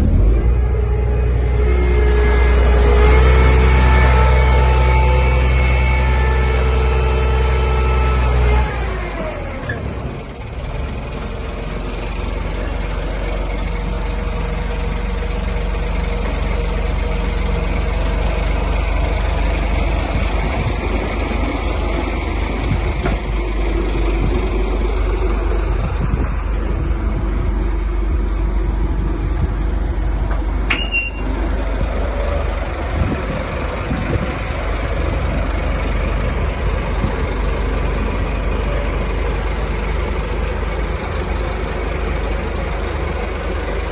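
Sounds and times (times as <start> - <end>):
fire truck diesel engine running: 0.0 - 43.9.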